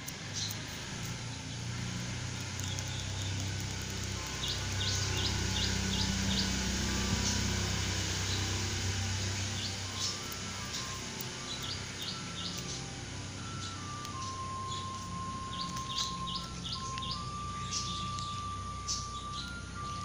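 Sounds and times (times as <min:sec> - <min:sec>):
small bird chirping: 0:00.0 - 0:20.0
steady low hum: 0:00.0 - 0:20.0.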